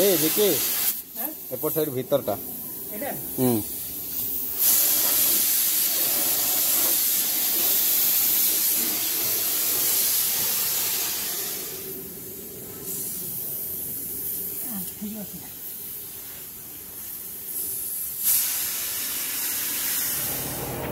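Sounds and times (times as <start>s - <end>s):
paint spray gun hissing: 0.0s - 1.9s, 3.1s - 20.7s.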